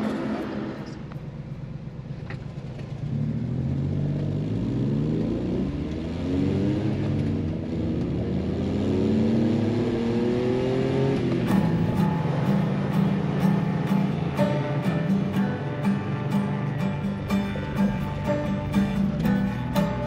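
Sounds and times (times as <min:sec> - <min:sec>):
small truck engine accelerating: 0:00.0 - 0:20.0.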